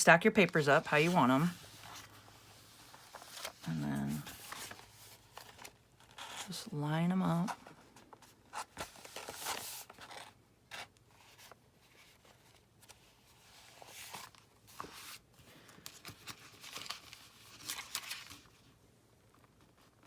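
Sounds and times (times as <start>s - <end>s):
paper rustling: 0.2s - 6.6s, 7.4s - 20.0s.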